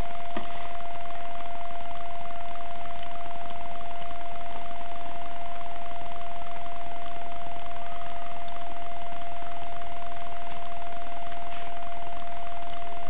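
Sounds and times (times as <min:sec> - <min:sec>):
constant hiss: 0:00.0 - 0:13.0.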